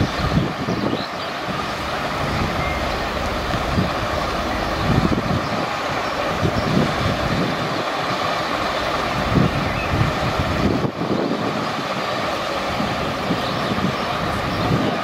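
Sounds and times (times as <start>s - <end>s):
diesel locomotive running: 0.0s - 15.0s.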